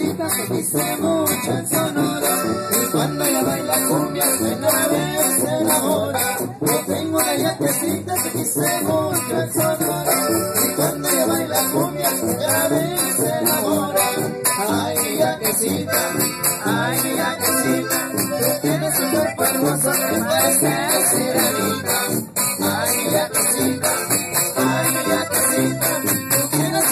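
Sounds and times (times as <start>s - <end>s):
accordion melody: 0.0s - 26.9s
tuba bass: 0.0s - 26.9s.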